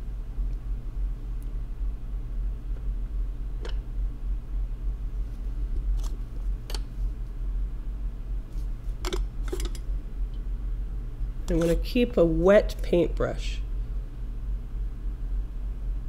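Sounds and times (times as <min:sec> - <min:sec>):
low equipment hum: 0:00.0 - 0:16.0.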